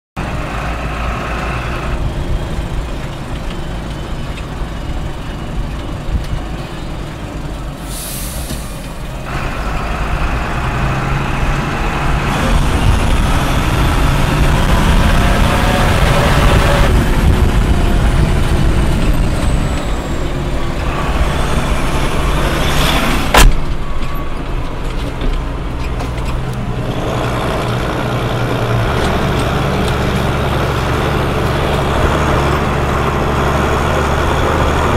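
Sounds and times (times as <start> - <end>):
tractor engine running under load: 0.2 - 34.9.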